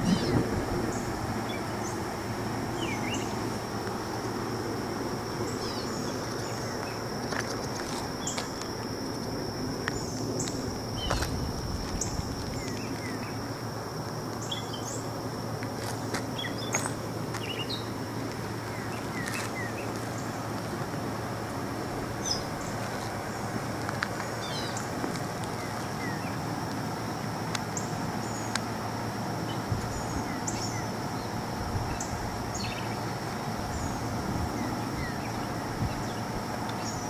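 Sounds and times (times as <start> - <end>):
birds chirping: 0.0 - 11.4, 14.4 - 15.2, 16.0 - 26.4, 29.4 - 37.0
high-pitched insect drone: 0.0 - 37.0
low steady rumble: 0.0 - 37.0.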